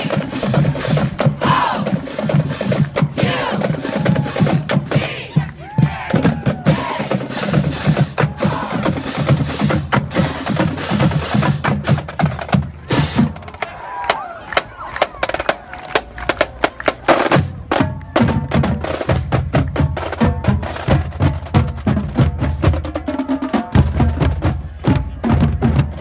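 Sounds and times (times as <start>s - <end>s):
drumline playing marching cadence: 0.0s - 26.0s.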